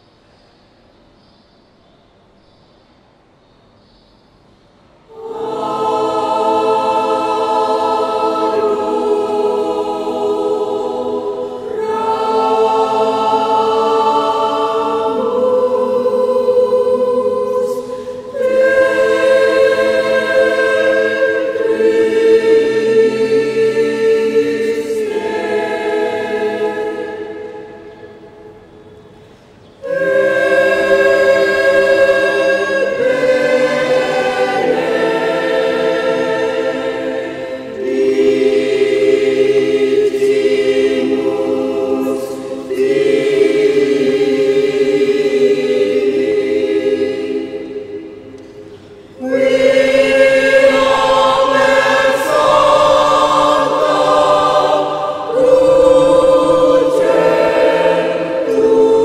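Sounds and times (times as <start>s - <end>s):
mixed choir singing: 5.0s - 59.0s.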